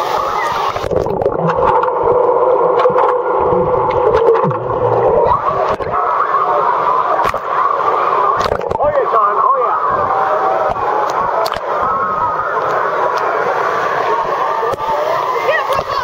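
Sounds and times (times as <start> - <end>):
underwater water rushing: 0.0 - 16.0.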